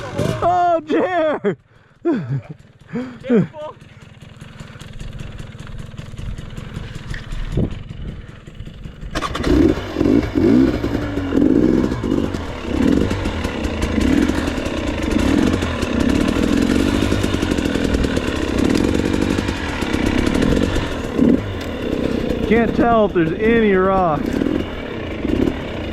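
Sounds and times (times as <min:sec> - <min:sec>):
dirt bike engine revving: 0:00.0 - 0:00.8, 0:02.1 - 0:25.9.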